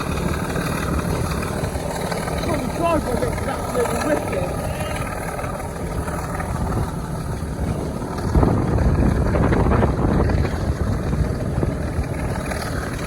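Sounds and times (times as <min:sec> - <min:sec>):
diesel locomotive rumble: 0:00.0 - 0:13.0
wind buffeting microphone: 0:00.0 - 0:13.0.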